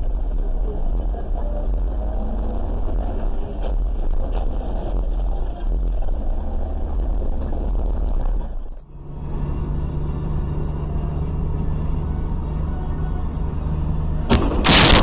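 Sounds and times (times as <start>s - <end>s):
steady engine hum: 0.0s - 15.0s
vehicle engine and road rumble: 0.0s - 15.0s.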